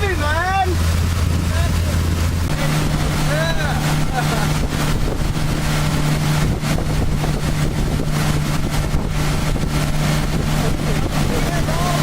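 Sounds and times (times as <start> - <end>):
boat motor running: 0.0 - 12.0
wind noise on microphone: 0.9 - 12.0.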